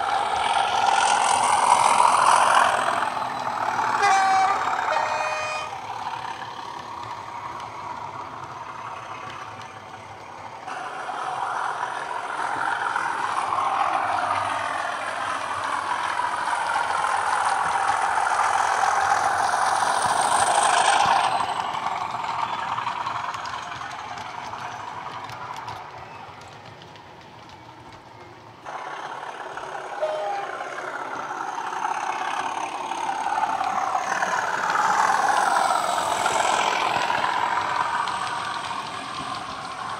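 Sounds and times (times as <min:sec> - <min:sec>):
model diesel locomotive engine: 0:00.0 - 0:39.9.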